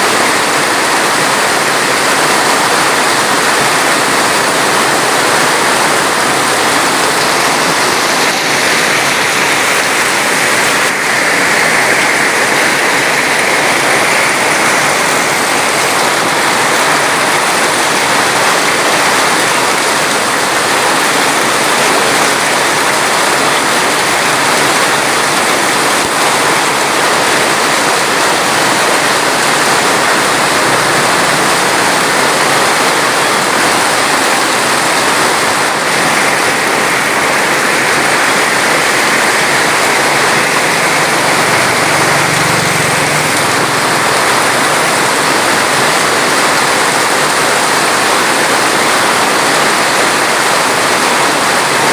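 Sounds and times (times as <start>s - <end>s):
water flowing: 0.0s - 51.9s.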